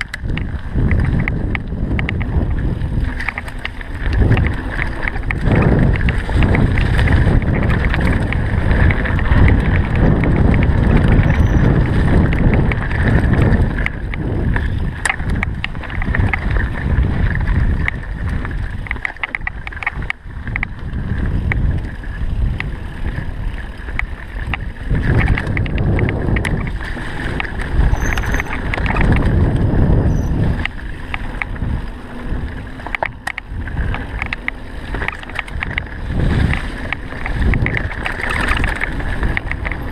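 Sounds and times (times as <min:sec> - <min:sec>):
mountain bike rumbling on rough trail: 0:00.0 - 0:39.9
wind on microphone: 0:00.0 - 0:39.9
rattling clicks and knocks: 0:03.0 - 0:20.7, 0:23.9 - 0:31.6, 0:32.8 - 0:39.9.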